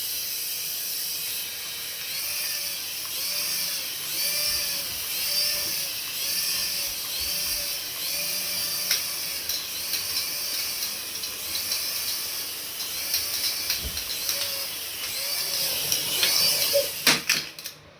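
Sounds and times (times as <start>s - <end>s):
small electric motor whirring: 0.0s - 17.7s.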